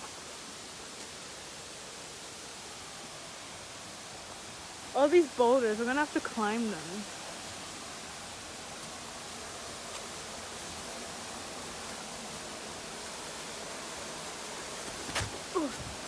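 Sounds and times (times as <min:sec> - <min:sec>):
water rushing in creek: 0:00.0 - 0:16.0.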